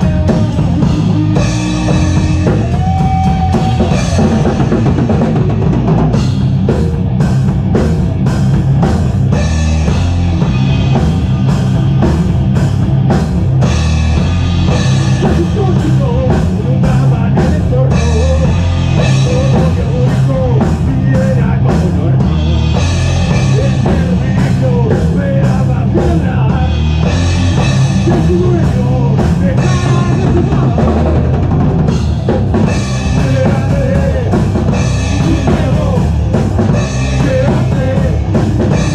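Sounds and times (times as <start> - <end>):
distorted guitar and bass: 0.0 - 38.9
pounding drum kit: 0.0 - 38.9
rock band playing live: 0.0 - 38.9.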